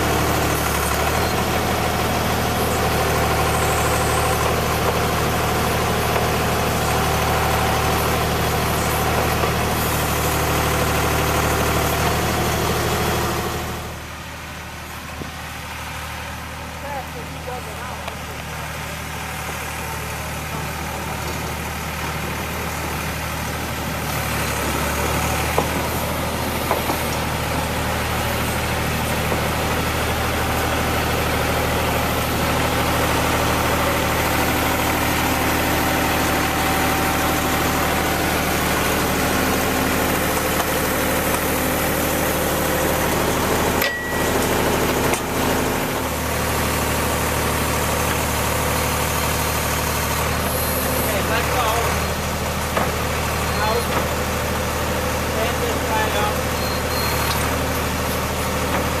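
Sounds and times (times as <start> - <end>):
rail machine engine running: 0.0 - 59.0.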